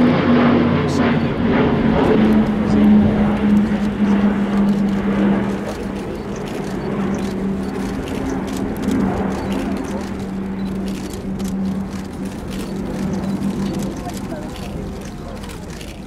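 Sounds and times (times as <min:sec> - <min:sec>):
low propeller drone: 0:00.0 - 0:16.0.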